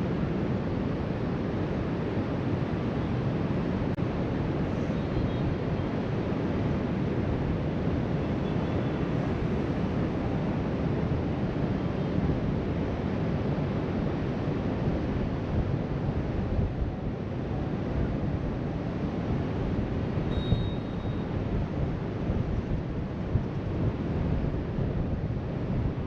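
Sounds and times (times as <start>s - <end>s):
wind on microphone: 3.7s - 26.0s.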